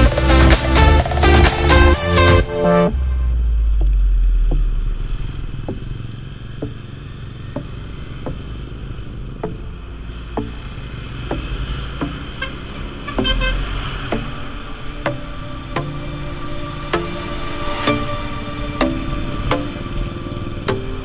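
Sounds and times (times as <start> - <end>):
motorcycle engine and road rumble: 0.0 - 21.0.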